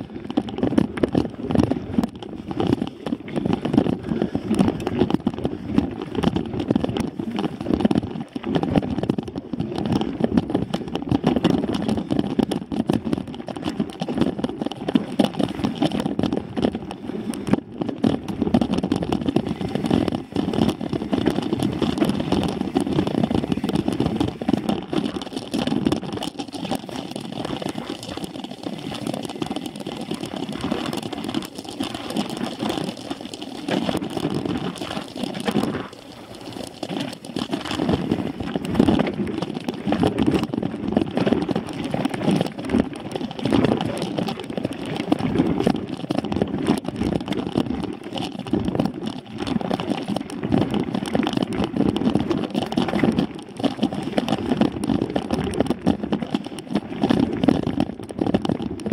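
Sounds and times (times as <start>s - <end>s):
bike rattling over rough trail: 0.0s - 58.9s
mountain bike rumbling on dirt: 0.0s - 58.9s
wind: 0.0s - 58.9s.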